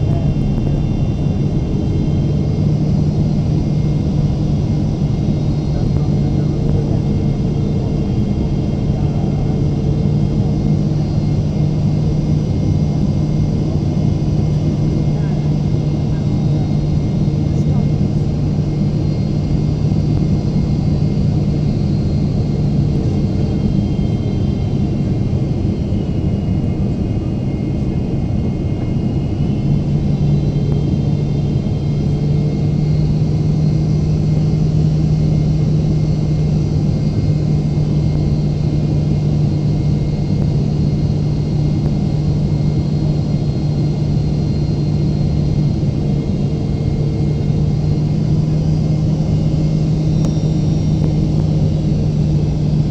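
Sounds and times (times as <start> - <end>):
constant low hum: 0.0 - 52.9
jet engine and airflow rumble: 0.0 - 52.9.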